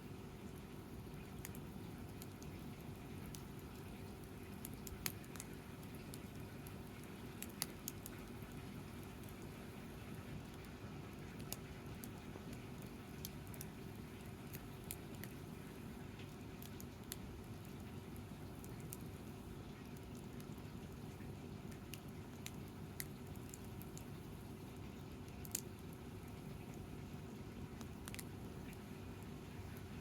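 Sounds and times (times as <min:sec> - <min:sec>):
campfire crackling and popping: 0:00.4 - 0:30.0.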